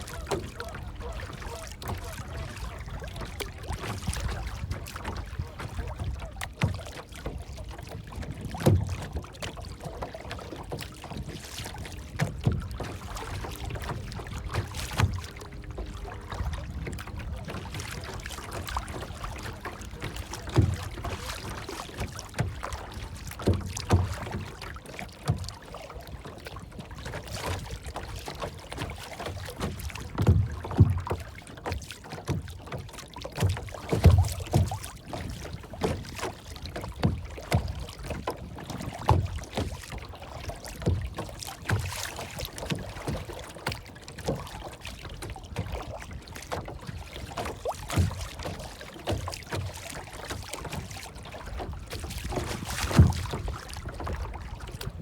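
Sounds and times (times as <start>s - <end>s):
water lapping and sloshing: 0.0s - 55.0s.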